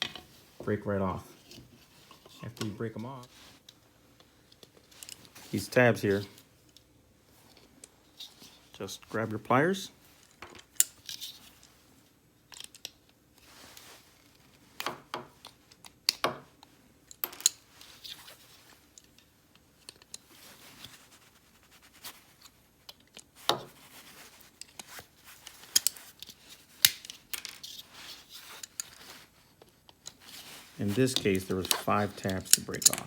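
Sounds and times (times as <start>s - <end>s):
handling and rattling: 0.0s - 33.0s.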